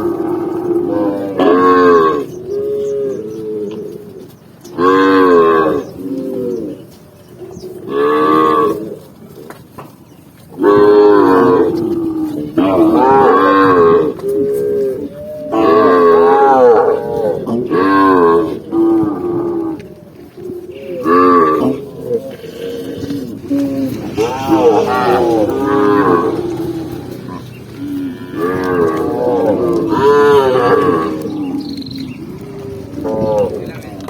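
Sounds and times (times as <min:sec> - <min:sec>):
cattle mooing: 0:00.0 - 0:06.9, 0:07.5 - 0:09.1, 0:10.5 - 0:34.0.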